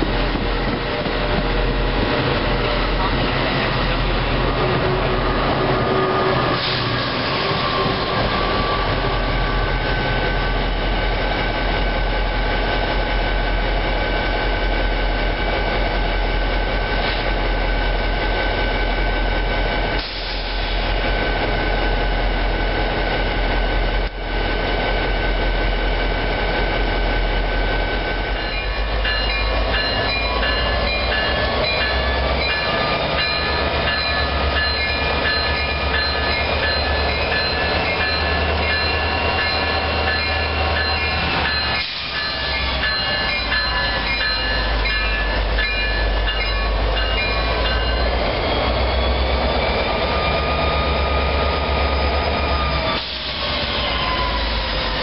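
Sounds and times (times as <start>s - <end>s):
diesel locomotive passing: 0.0s - 55.0s
train rumble and rail noise: 0.0s - 55.0s.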